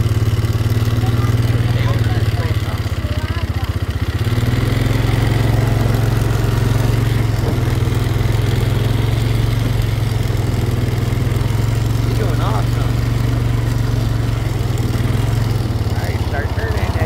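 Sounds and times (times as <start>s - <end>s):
atv engine running under throttle: 0.0s - 17.0s.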